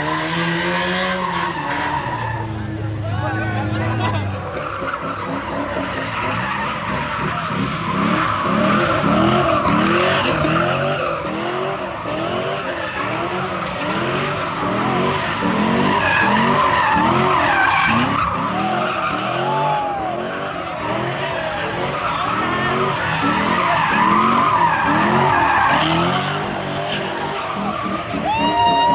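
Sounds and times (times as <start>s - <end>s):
car engine revving: 0.0s - 28.9s
tyres screeching: 1.2s - 28.9s.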